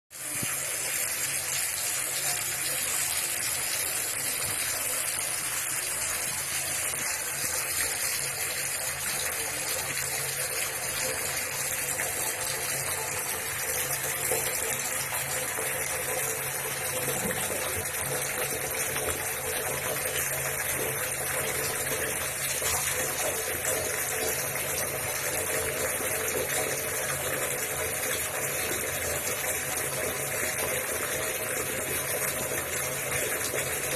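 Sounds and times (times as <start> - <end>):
tap water running into bathtub: 0.1 - 33.9
water flowing down drain: 0.1 - 33.9.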